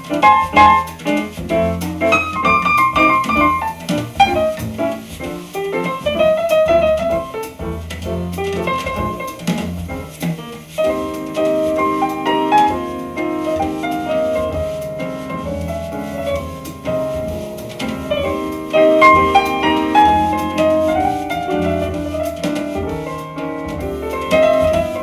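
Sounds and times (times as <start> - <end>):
jazz piano: 0.0 - 25.0
walking double bass: 0.0 - 25.0.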